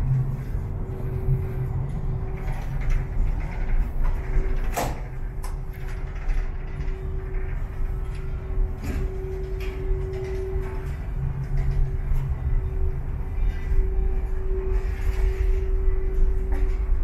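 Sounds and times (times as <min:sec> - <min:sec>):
ship machinery rumble and hum: 0:00.0 - 0:17.0.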